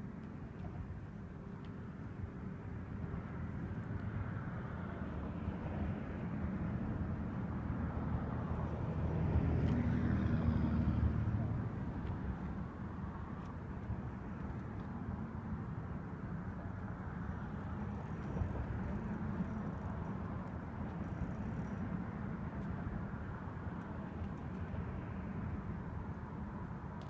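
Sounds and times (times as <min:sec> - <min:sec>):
road and wind noise inside car: 0:00.0 - 0:27.0.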